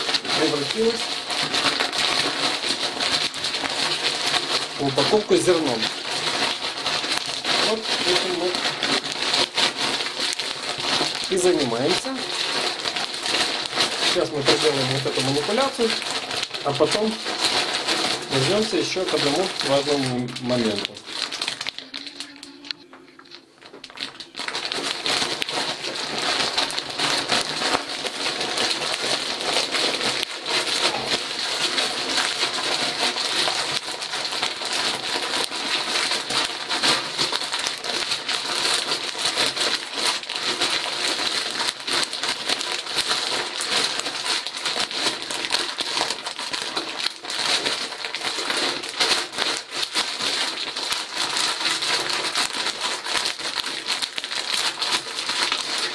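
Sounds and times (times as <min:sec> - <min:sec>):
grains crackling and rustling: 0:00.0 - 0:55.9
plastic bag crinkling: 0:00.0 - 0:55.9.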